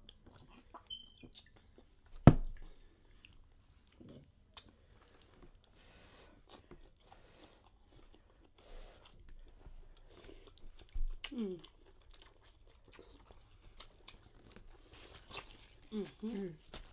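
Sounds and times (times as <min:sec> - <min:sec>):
people chewing: 0:00.0 - 0:16.9.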